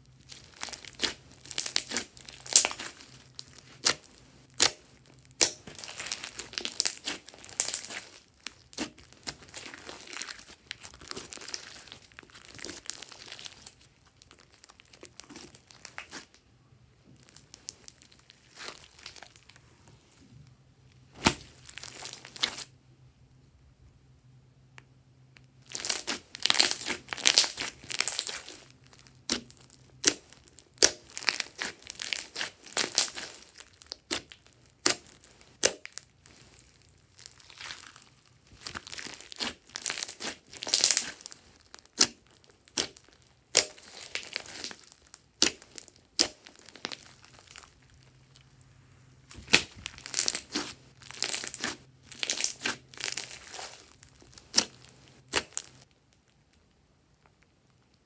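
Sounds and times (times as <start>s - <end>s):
hands squishing beaded slime: 0.1s - 16.4s, 17.2s - 19.6s, 21.2s - 22.7s, 25.6s - 48.6s, 49.2s - 55.9s.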